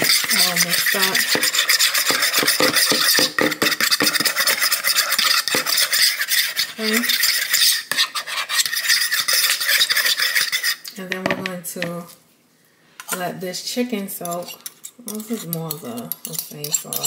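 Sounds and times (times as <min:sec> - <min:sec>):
utensil clinking and scraping bowl: 0:00.0 - 0:12.0, 0:14.1 - 0:17.0.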